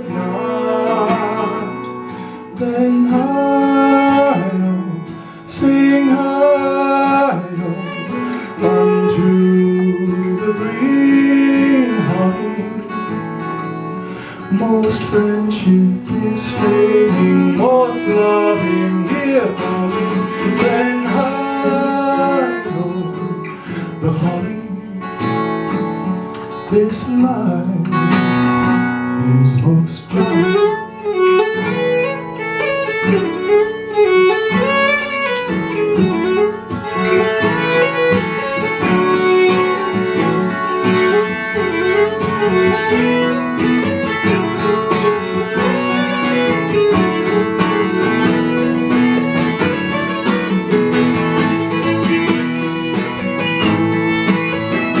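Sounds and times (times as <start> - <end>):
fiddle melody: 0.0 - 55.0
strummed acoustic guitar: 0.0 - 55.0.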